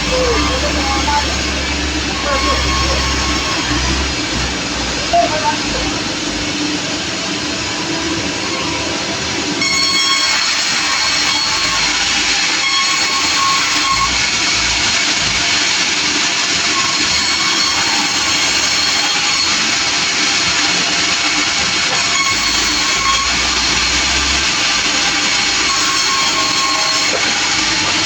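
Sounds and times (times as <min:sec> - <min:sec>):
sawmill running: 0:00.0 - 0:28.0.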